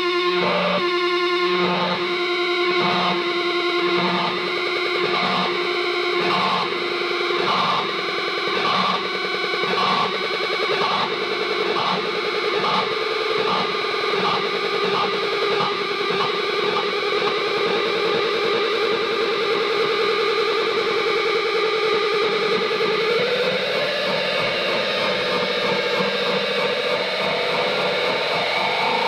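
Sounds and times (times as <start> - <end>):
distorted electric guitar with echoes: 0.0 - 29.0.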